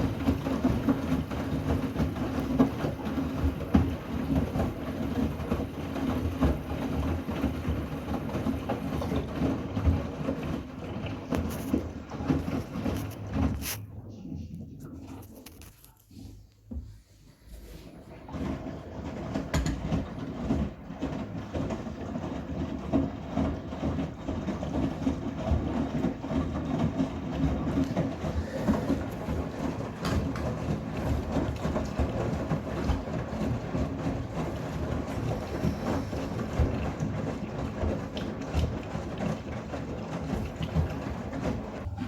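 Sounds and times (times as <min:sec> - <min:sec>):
washing machine drum rumbling: 0:00.0 - 0:15.3, 0:17.8 - 0:42.0.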